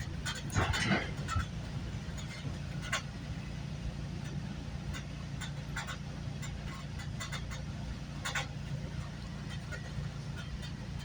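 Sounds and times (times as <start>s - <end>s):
clicks and rattles: 0.0s - 3.2s, 4.2s - 11.0s
train rumble inside coach: 0.0s - 11.0s.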